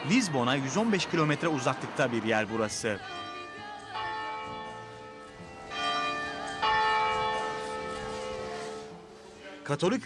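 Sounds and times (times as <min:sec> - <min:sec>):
church bells ringing: 0:00.0 - 0:09.1.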